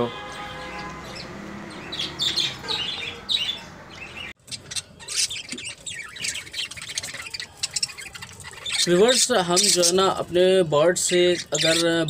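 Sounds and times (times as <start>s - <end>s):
budgerigars chirping: 1.1s - 12.0s.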